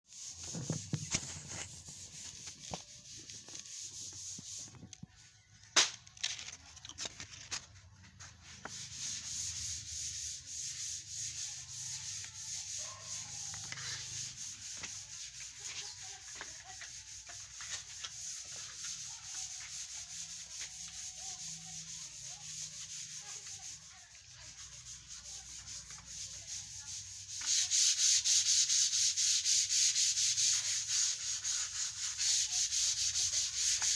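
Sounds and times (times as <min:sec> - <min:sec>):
sandpaper rubbing over wood: 0:00.1 - 0:04.9, 0:08.2 - 0:33.9.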